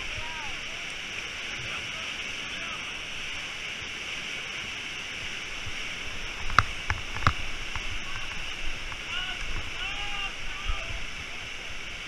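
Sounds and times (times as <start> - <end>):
whitewater rapid roaring: 0.0 - 12.0.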